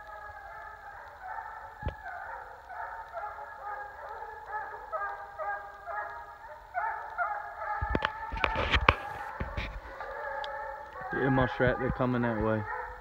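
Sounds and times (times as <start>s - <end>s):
hound baying: 0.0s - 13.0s.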